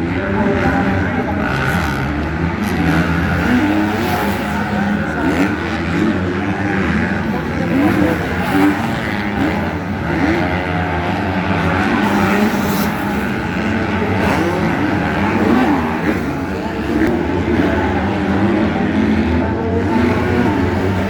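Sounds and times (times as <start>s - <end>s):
motocross motorcycle engines revving: 0.0s - 21.0s.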